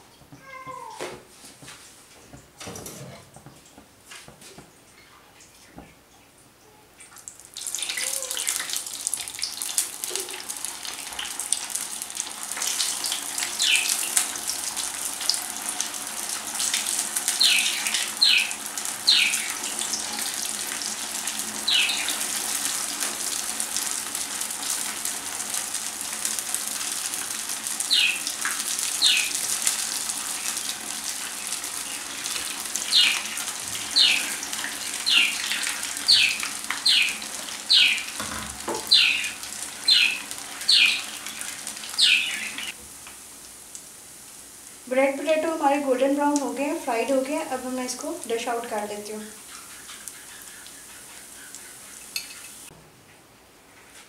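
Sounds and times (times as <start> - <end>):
food sizzling in hot oil: 7.2 - 52.7.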